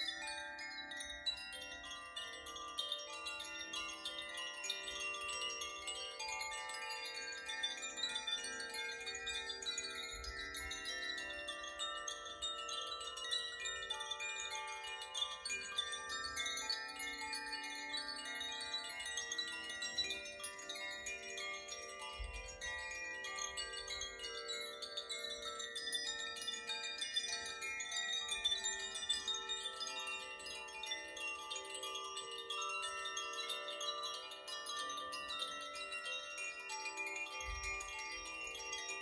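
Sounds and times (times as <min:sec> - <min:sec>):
wind chimes ringing: 0:00.0 - 0:39.0.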